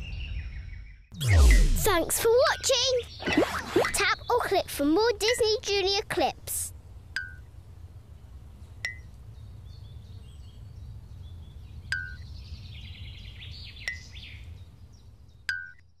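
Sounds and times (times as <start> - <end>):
birds chirping: 0.0 - 16.0
low outdoor rumble: 1.2 - 15.4.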